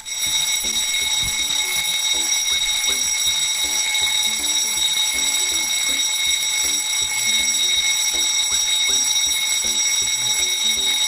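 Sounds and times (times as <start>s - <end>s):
fire alarm bell ringing: 0.0s - 11.0s.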